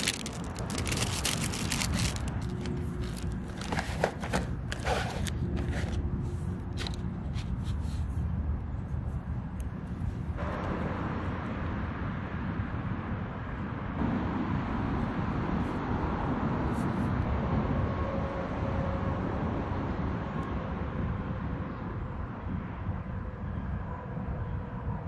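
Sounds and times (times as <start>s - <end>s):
outdoor background rumble: 0.0s - 25.0s.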